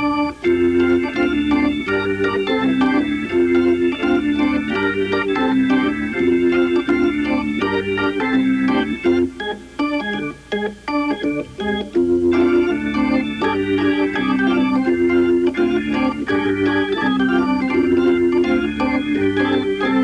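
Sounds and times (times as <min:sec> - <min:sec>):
organ chords: 0:00.0 - 0:20.0.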